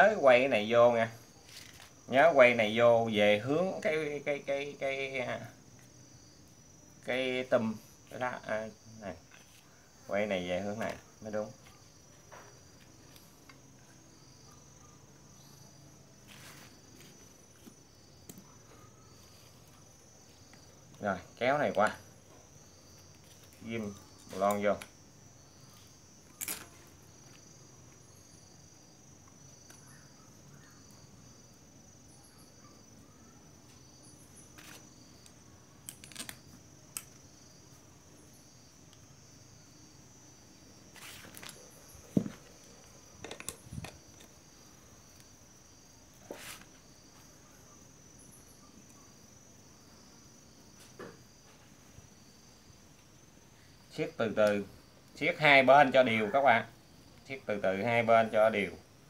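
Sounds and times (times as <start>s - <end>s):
high-pitched insect chirring: 0.0s - 50.6s.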